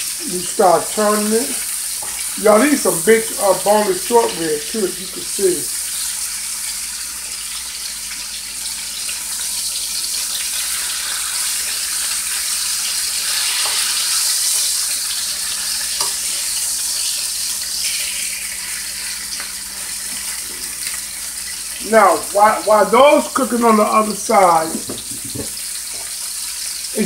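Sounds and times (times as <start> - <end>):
meat sizzling in a skillet: 0.0 - 27.0.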